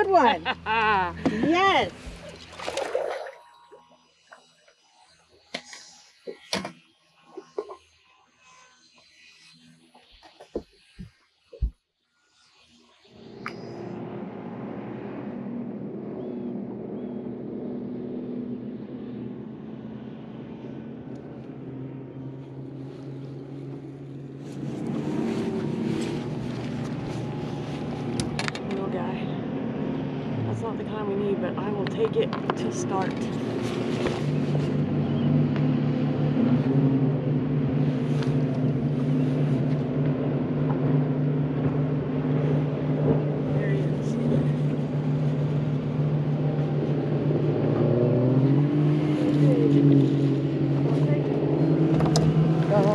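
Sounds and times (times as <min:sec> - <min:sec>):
boat motor droning: 0:00.0 - 0:11.7, 0:12.8 - 0:52.9.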